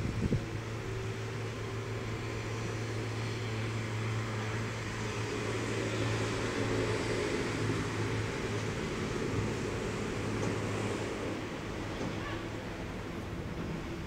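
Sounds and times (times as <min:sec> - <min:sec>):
train rolling on rails: 0:00.0 - 0:14.0.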